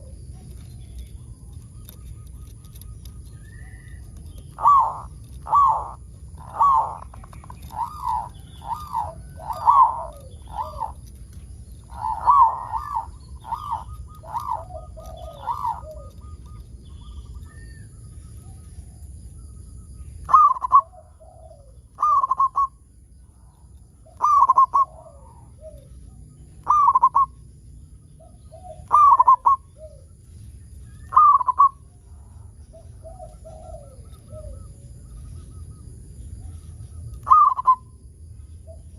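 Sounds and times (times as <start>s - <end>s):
dove cooing: 0.0s - 17.9s, 20.2s - 22.8s, 23.4s - 27.5s, 28.2s - 30.2s, 30.9s - 35.0s, 36.4s - 38.0s.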